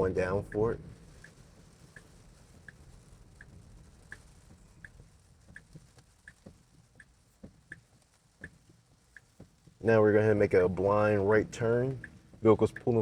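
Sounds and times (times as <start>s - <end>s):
soft irregular knocks: 0.0s - 9.9s, 10.8s - 13.0s
turn signal ticking: 0.0s - 13.0s.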